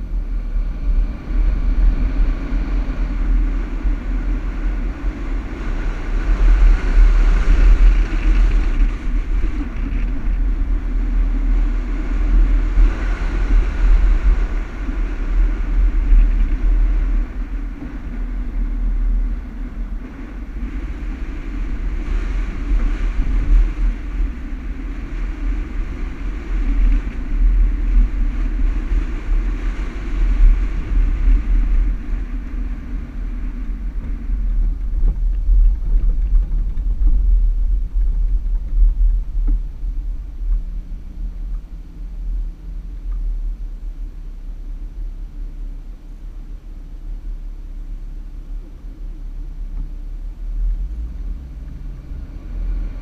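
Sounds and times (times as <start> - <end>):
engine and tyres rumbling in sand: 0.0 - 53.0.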